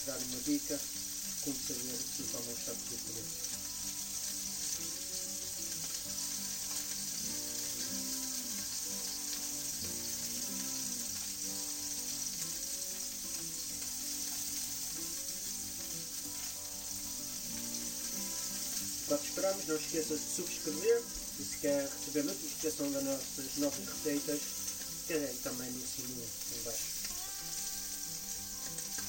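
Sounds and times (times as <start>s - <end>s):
fish sizzling in frying pan: 0.0s - 29.0s.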